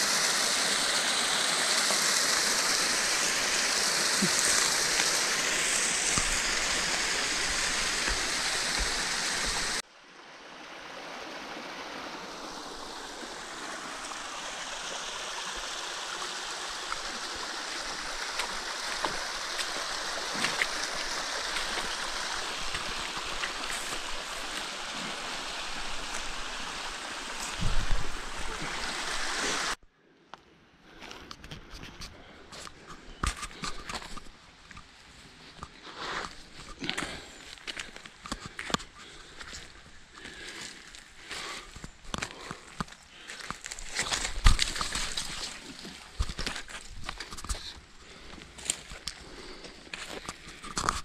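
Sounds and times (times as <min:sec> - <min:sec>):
stream running over rocks: 0:00.0 - 0:29.8, 0:32.2 - 0:51.0.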